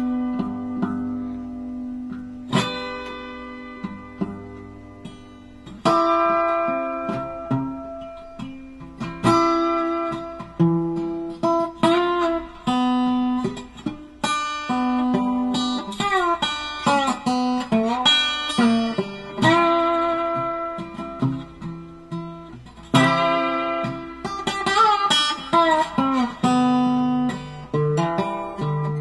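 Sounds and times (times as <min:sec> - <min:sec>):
acoustic guitar plucked notes: 0:00.0 - 0:29.0.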